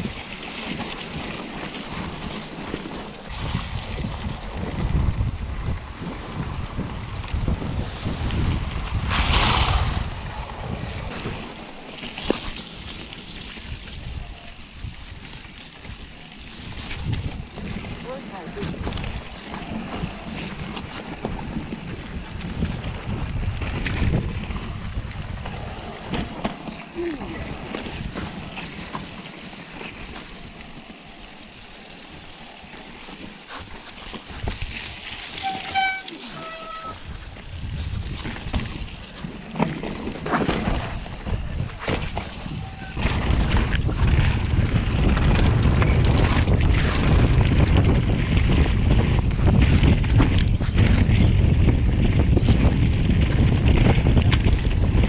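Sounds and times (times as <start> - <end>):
bike tyres rolling over rough trail: 0.0 - 55.0
wind rumbling on microphone: 0.0 - 55.0.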